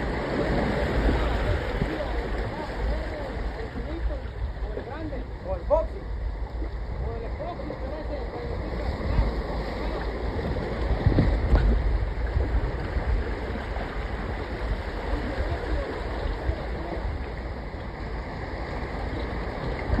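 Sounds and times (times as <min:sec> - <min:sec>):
small waves lapping against rocks: 0:00.0 - 0:20.0
wind rumbling on microphone: 0:00.0 - 0:20.0.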